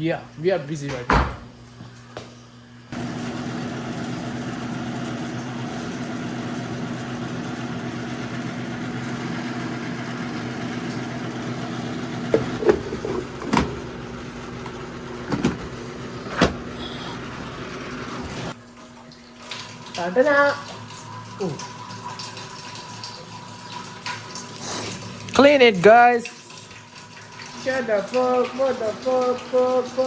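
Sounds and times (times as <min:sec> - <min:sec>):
coffee machine pump humming: 0:01.8 - 0:30.0.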